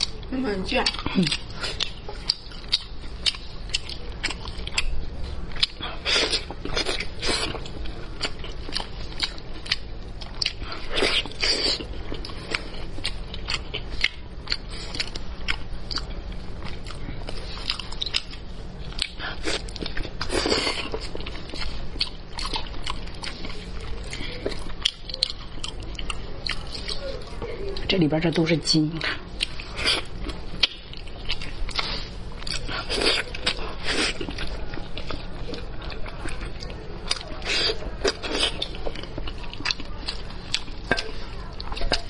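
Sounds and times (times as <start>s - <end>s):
close-miked chewing and lip-smacking: 0.0s - 42.0s.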